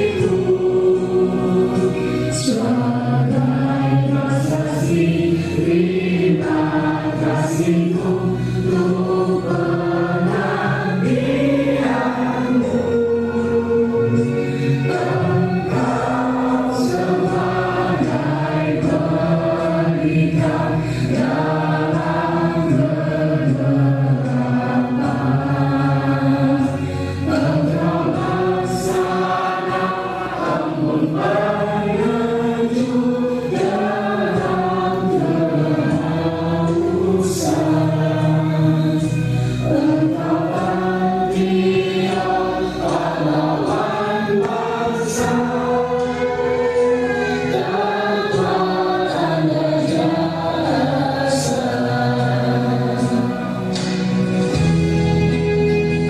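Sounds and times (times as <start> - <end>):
choir singing: 0.0 - 55.4.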